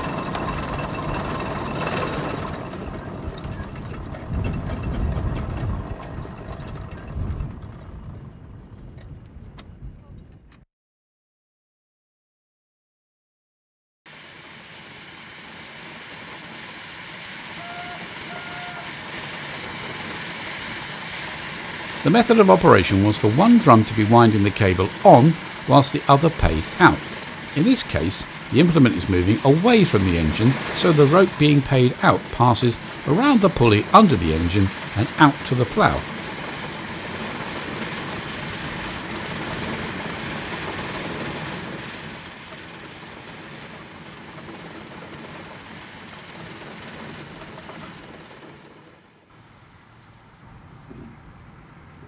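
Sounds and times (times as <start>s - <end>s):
steam engine noisy rush: 0.0s - 8.0s, 14.1s - 52.0s.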